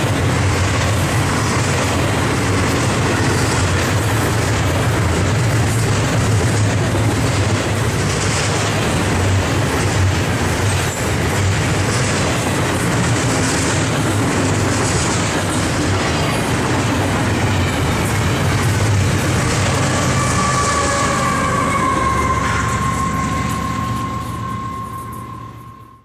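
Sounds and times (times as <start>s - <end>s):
locomotive high whine: 0.0s - 26.0s
train wheels rumbling on rails: 0.0s - 26.0s.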